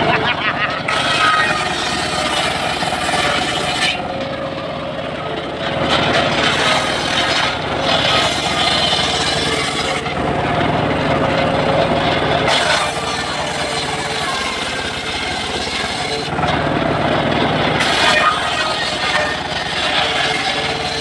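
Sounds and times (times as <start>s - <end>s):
circular saw blade cutting log: 0.0s - 21.0s
sawmill machine running: 0.0s - 21.0s.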